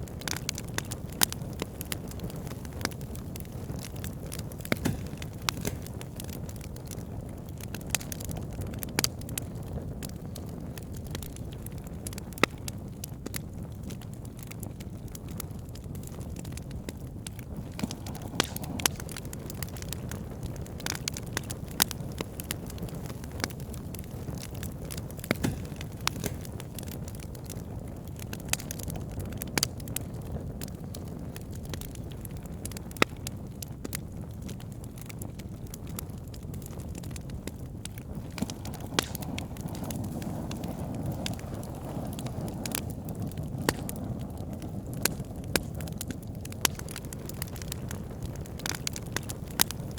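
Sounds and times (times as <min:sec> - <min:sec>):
campfire flames rumbling: 0:00.0 - 0:49.9
fire crackling and popping: 0:00.0 - 0:49.9.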